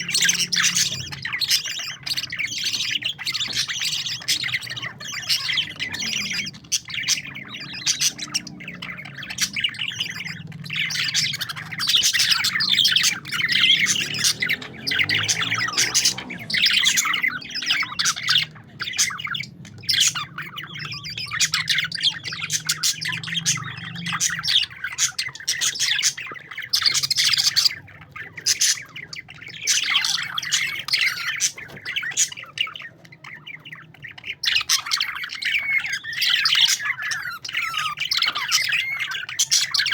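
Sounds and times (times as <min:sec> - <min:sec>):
parakeets chattering and squawking: 0:00.0 - 0:39.9.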